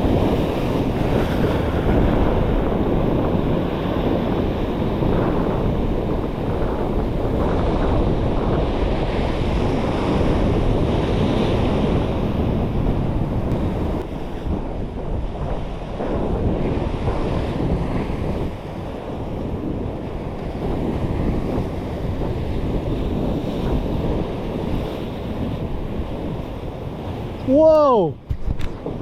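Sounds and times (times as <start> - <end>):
waves washing against rocks: 0.0 - 29.0
wind buffeting microphone: 0.0 - 29.0.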